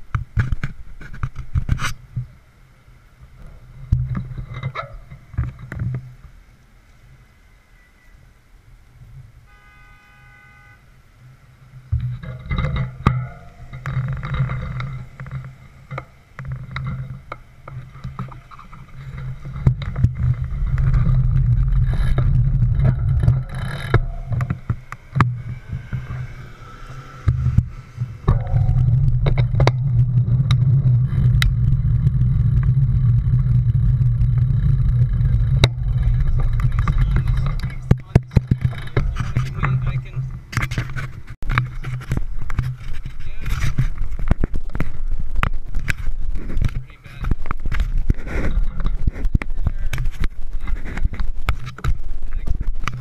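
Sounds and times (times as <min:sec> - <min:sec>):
bike clicks and rattles: 0:00.0 - 0:02.0, 0:03.4 - 0:06.1, 0:11.9 - 0:53.0
wind rumbling on microphone: 0:00.0 - 0:09.7, 0:11.0 - 0:53.0
street traffic: 0:00.0 - 0:53.0.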